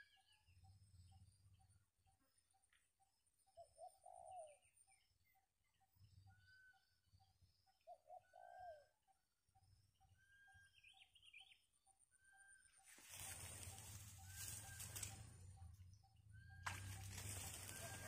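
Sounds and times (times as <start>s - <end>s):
faint birds calling: 3.4s - 18.0s.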